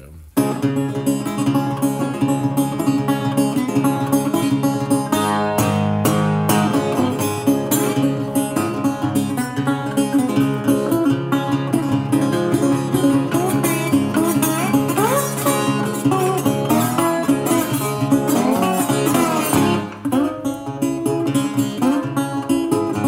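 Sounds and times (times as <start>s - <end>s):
resonator guitar fingerpicked blues: 0.2s - 23.0s.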